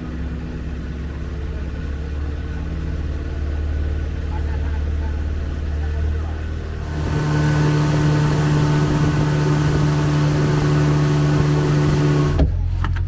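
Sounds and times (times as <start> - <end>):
boat engine running: 0.0 - 12.7.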